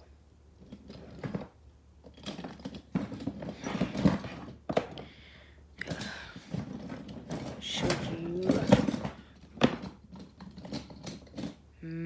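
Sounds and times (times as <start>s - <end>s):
toy trucks clattering together: 0.6s - 5.1s, 5.8s - 11.6s.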